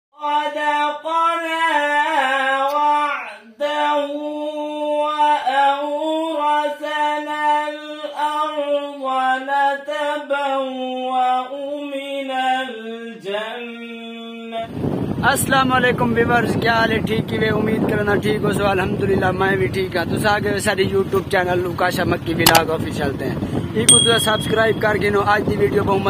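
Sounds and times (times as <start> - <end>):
man singing devotional chant: 0.1 - 14.7, 15.4 - 26.0.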